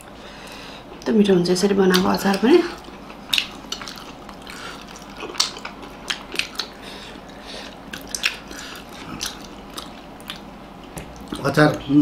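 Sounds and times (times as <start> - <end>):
biting and chewing food: 1.9 - 11.8.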